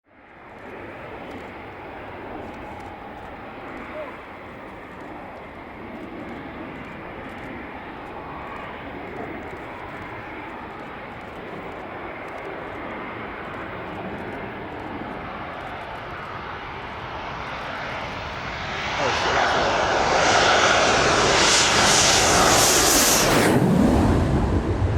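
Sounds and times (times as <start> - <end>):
distant jet engine rushing: 0.3 - 24.9.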